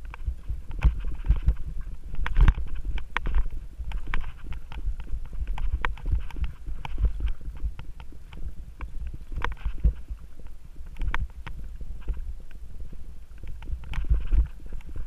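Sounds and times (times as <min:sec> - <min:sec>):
bike clicking and rattling: 0:00.0 - 0:15.0
low rumble of bike ride: 0:00.0 - 0:15.0.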